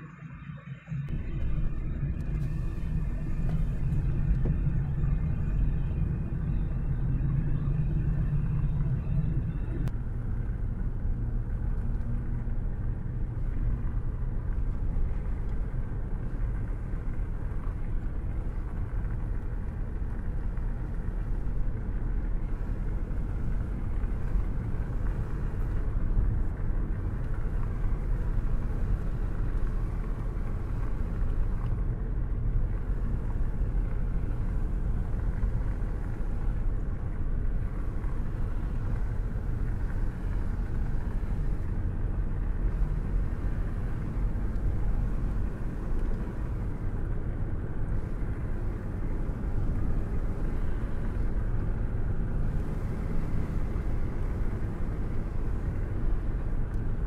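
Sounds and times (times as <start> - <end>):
car engine and tyre rumble: 0.0 - 57.0
low hum: 0.0 - 57.0.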